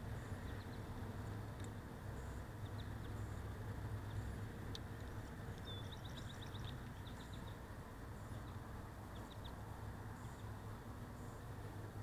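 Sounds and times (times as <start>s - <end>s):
low steady rumble: 0.0s - 12.0s
songbird chirping: 0.0s - 12.0s.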